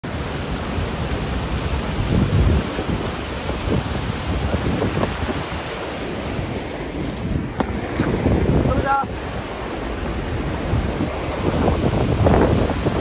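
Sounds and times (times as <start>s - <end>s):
rushing floodwater with deep rumble: 0.0s - 13.0s.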